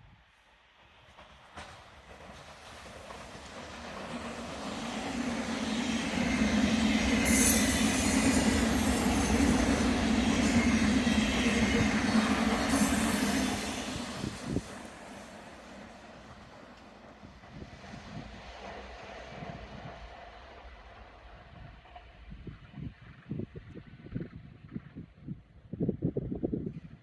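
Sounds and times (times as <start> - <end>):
train rolling past: 0.2 - 25.3.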